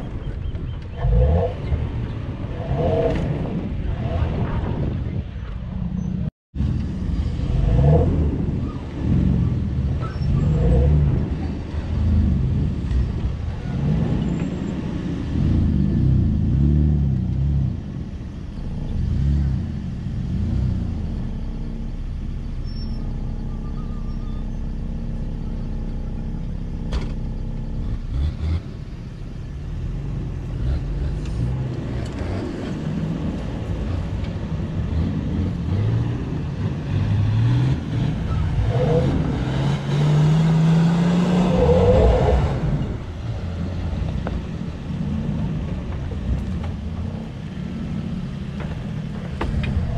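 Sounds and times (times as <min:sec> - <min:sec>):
car engine revving: 0:06.6 - 0:49.9.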